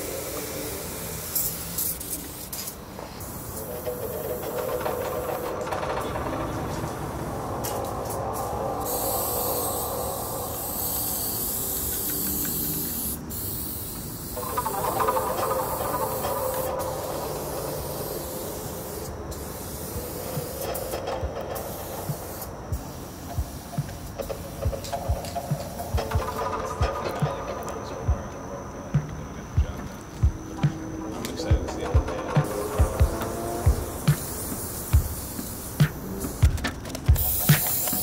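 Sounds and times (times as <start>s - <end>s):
spray paint cans hissing: 0.0s - 38.0s.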